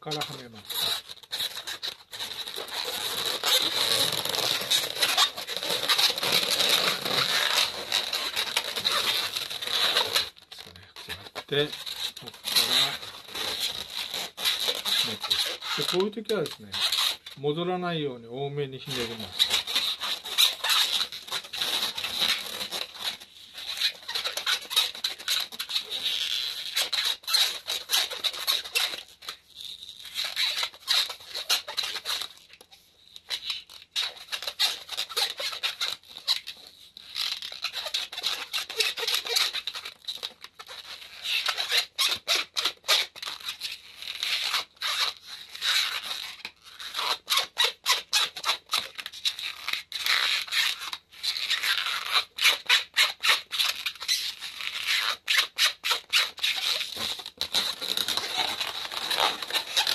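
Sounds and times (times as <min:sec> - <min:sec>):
balloon rubber squeaking: 0:00.0 - 0:59.9.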